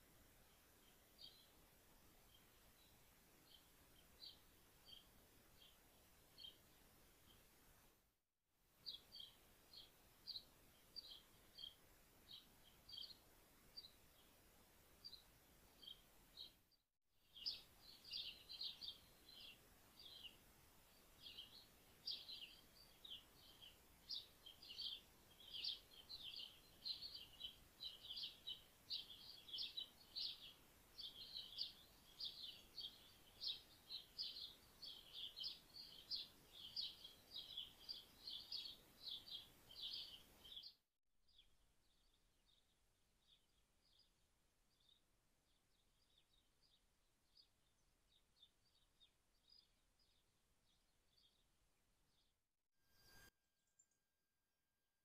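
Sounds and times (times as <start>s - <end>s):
small birds chirping: 0.1s - 7.8s, 8.8s - 16.7s, 17.3s - 52.3s.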